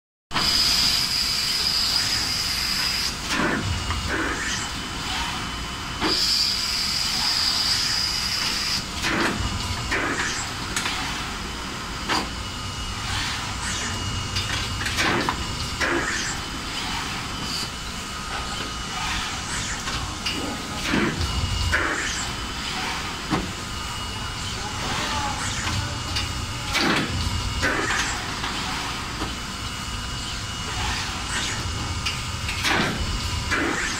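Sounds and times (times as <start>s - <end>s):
steady machine hum: 0.3s - 33.9s.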